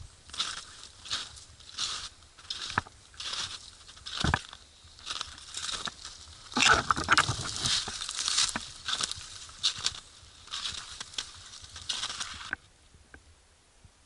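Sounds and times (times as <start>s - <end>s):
footsteps crunching in snow: 0.0s - 12.6s
branches scraping a jacket: 0.3s - 12.6s.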